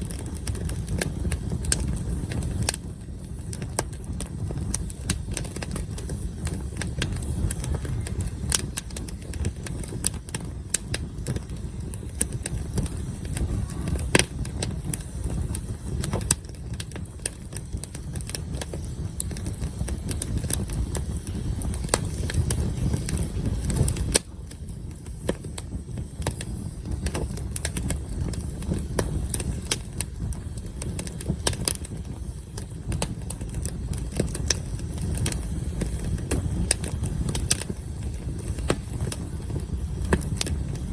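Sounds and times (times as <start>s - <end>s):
campfire crackling: 0.0s - 40.9s
fire snapping and popping: 0.0s - 40.9s.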